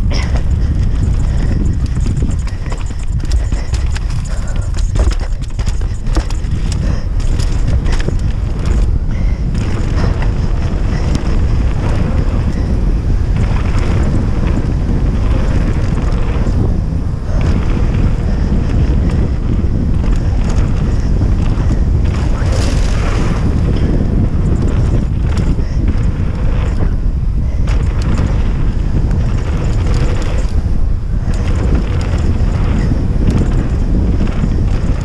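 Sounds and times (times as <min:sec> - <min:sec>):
bike rattling and knocking: 0:00.0 - 0:35.0
tyres rumbling on gravel: 0:00.0 - 0:35.0
wind buffeting microphone: 0:00.0 - 0:35.0.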